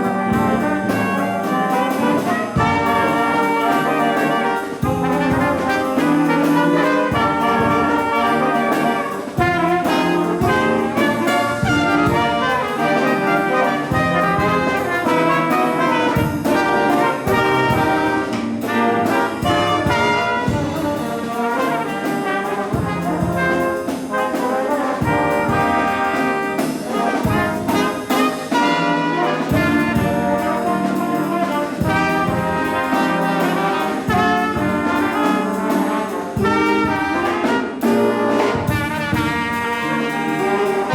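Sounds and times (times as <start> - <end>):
brass melody: 0.0 - 40.9
drums: 0.0 - 40.9
jazz band playing: 0.0 - 40.9.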